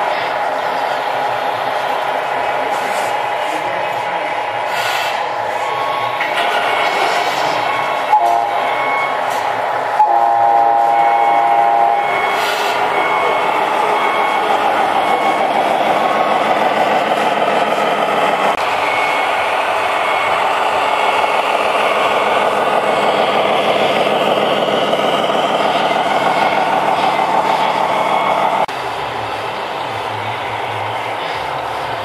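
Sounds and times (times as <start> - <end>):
simulated diesel truck engine: 0.0 - 32.0.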